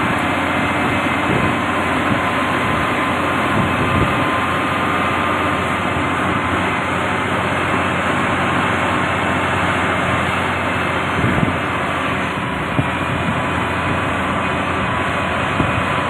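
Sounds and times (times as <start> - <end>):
heavy machine engine under load: 0.0 - 16.0.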